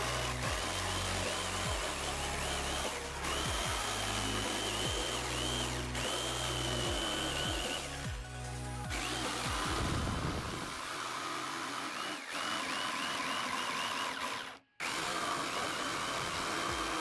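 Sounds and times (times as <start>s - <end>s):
jigsaw cutting plywood: 0.0s - 17.0s.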